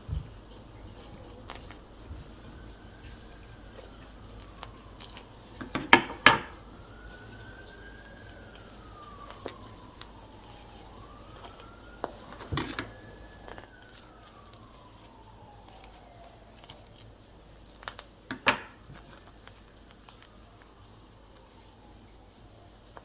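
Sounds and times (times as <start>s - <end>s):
siren wailing: 0.1s - 23.0s.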